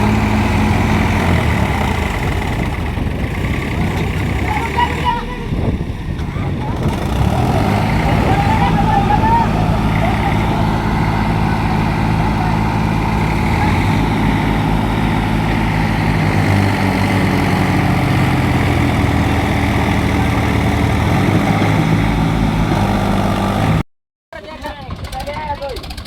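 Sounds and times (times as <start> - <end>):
tractor diesel engines running: 0.0 - 23.8.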